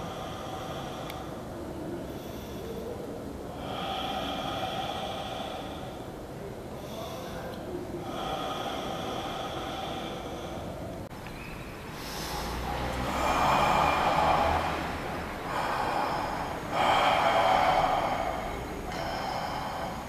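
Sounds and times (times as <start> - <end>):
slow heavy breathing: 0.0 - 11.2, 11.8 - 20.0.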